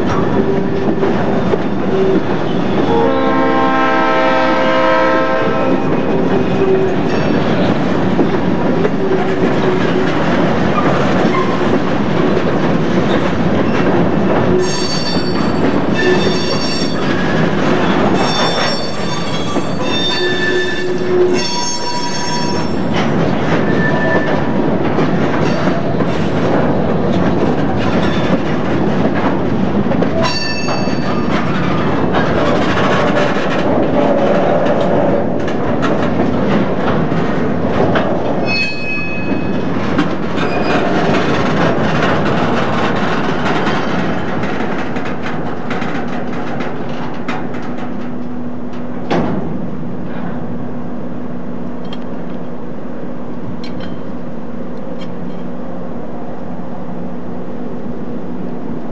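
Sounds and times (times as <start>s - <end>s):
wheels clicking over rail joints: 0.0s - 50.7s, 53.4s - 55.6s
freight train rolling past: 0.0s - 58.9s.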